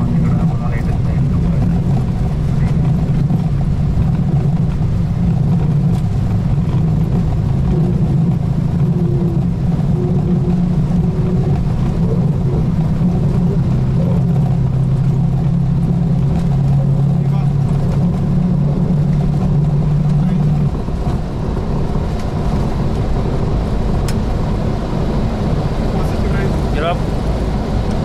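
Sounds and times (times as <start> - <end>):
aircraft cockpit engine drone: 0.0 - 28.0.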